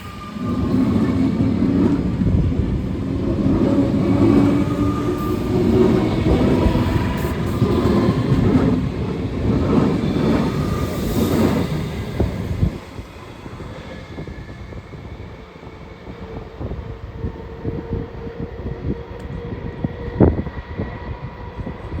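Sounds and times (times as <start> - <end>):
electric train rumble: 0.0 - 22.0.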